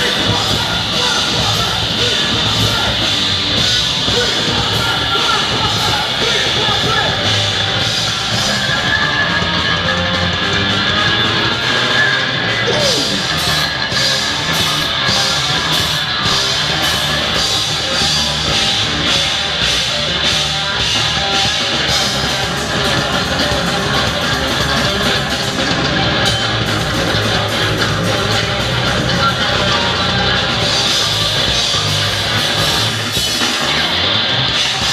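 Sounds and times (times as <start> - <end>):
drum kit beat: 0.0 - 34.9
electric guitar: 0.0 - 34.9.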